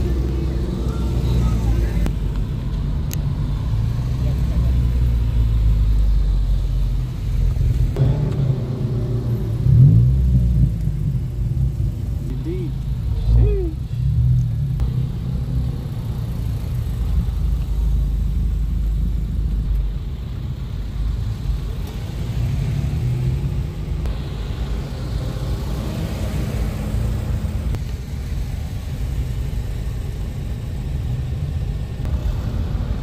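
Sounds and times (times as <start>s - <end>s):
car engines running in traffic: 0.0s - 33.0s.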